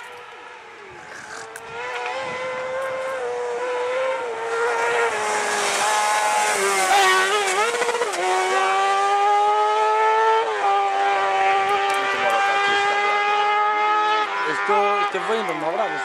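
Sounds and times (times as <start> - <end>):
buggy engine at high revs: 0.0 - 16.0.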